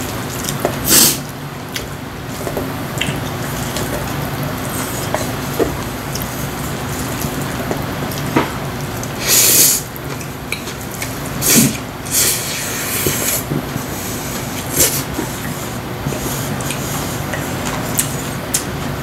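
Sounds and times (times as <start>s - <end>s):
steady background noise: 0.0s - 19.0s
noodles being slurped: 2.2s - 18.8s.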